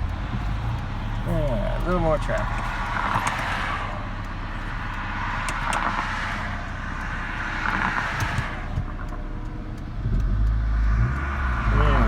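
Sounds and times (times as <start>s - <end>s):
car engine idling: 0.0s - 12.0s
cars passing by: 0.0s - 12.0s.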